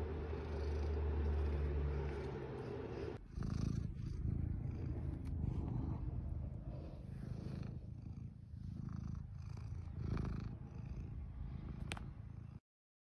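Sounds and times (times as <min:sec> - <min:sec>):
kitten purring: 0:00.0 - 0:12.6.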